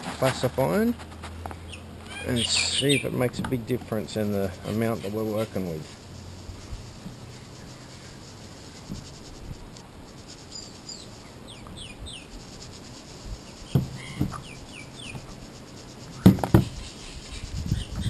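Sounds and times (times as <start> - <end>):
small birds chirping: 1.4 - 18.0.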